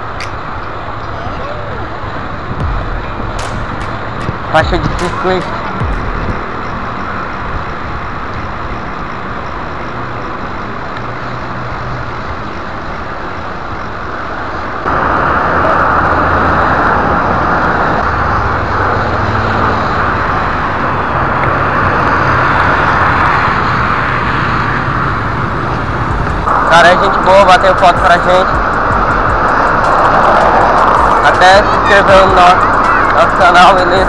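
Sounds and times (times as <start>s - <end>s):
road traffic noise: 0.0s - 34.0s.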